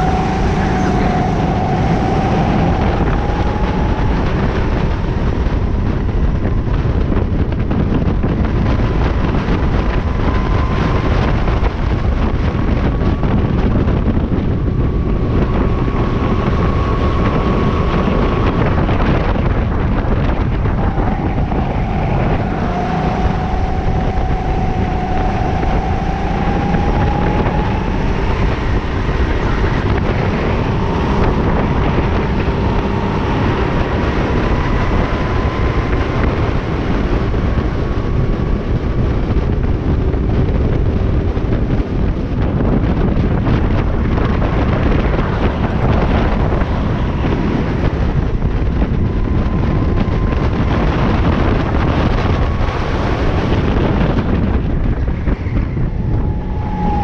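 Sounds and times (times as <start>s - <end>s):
go-kart engine: 0.0s - 57.0s
wind buffeting microphone: 0.0s - 57.0s.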